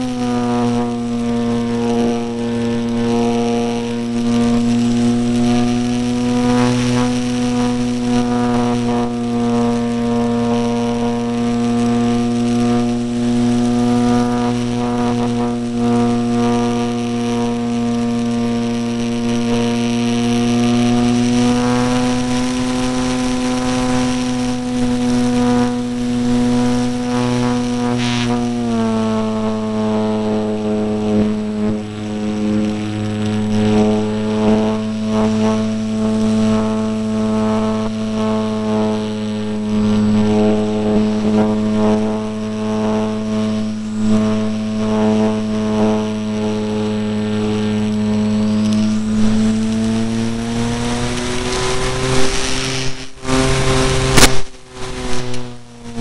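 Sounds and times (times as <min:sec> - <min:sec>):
electric motor propeller whine: 0:00.0 - 0:56.0
rushing air: 0:00.0 - 0:56.0.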